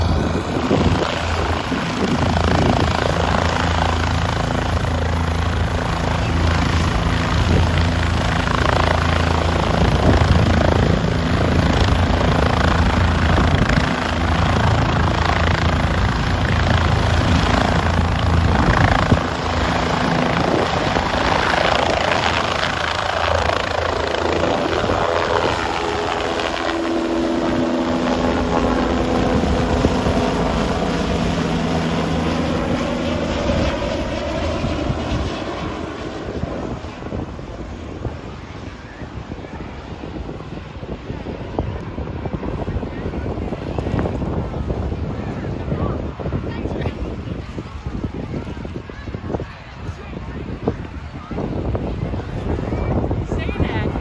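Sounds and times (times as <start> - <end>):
helicopter rotor and turbine engine: 0.0 - 54.0.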